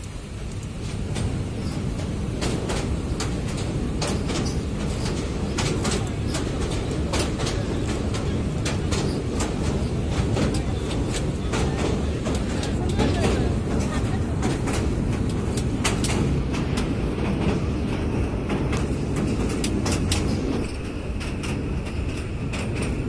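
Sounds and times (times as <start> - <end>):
train low rumble: 0.0 - 23.0
wheel clicks and clanks: 0.0 - 23.0.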